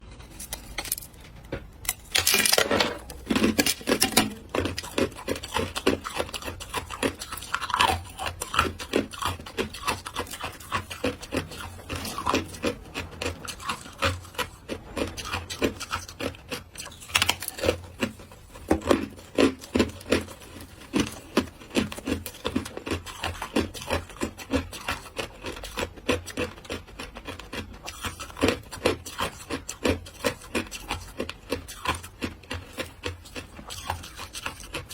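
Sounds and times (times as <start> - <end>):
person chewing crunchy ice: 0.0 - 34.9.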